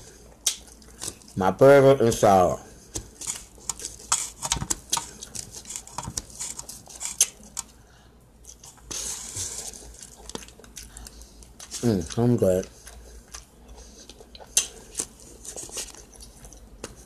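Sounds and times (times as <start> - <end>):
chewing crunchy food: 0.0 - 1.4, 2.7 - 7.8, 8.4 - 17.0.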